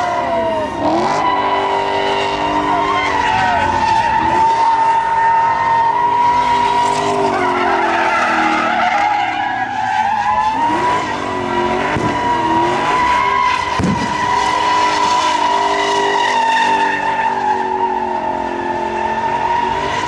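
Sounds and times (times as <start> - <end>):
truck engine revving: 0.0 - 9.5, 10.3 - 20.0.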